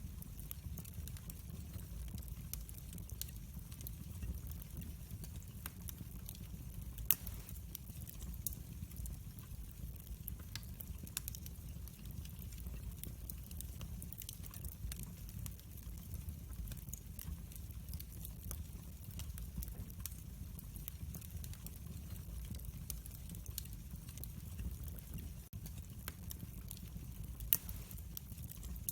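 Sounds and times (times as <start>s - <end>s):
fire crackling and popping: 0.0s - 28.9s
fire low rumble: 0.0s - 28.9s.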